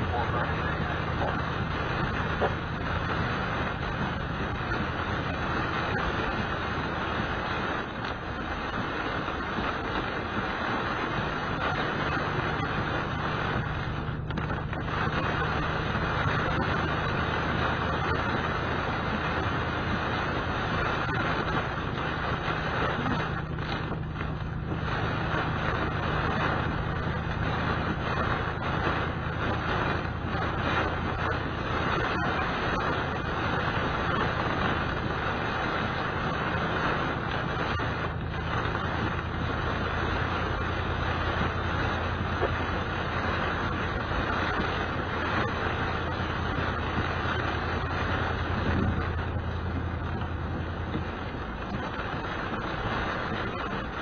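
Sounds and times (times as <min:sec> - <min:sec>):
car engine hum: 0:00.0 - 0:54.0
rain on windshield: 0:00.0 - 0:54.0
tyre hiss on wet road: 0:00.0 - 0:54.0.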